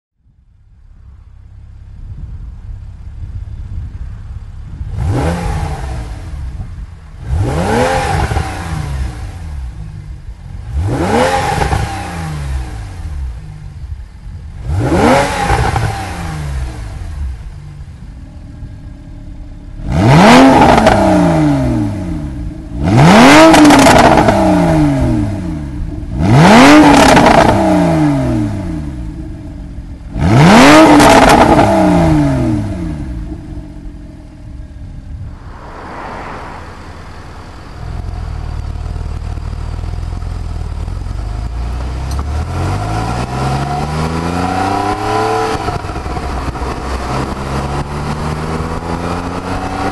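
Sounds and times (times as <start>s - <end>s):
car engine revving from idle: 4.9s - 35.0s, 36.9s - 49.9s.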